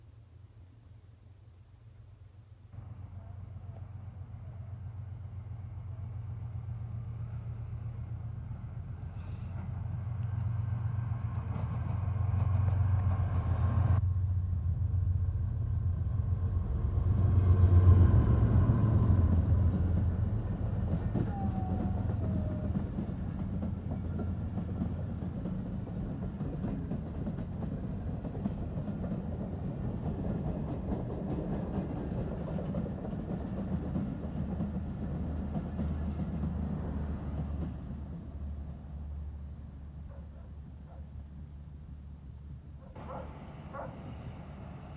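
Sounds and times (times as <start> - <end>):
train rumbling past: 2.7 - 44.9.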